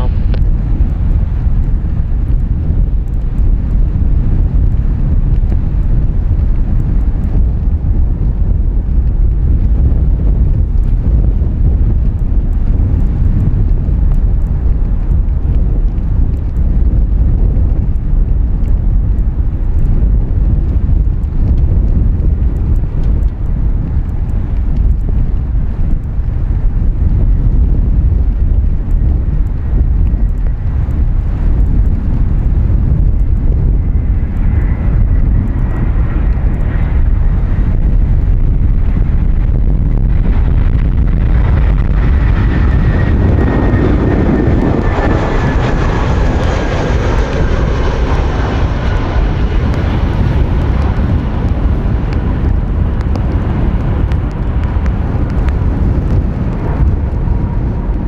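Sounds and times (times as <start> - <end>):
jet engine whine: 0.0 - 58.0
wind rumble on microphone: 0.0 - 58.0.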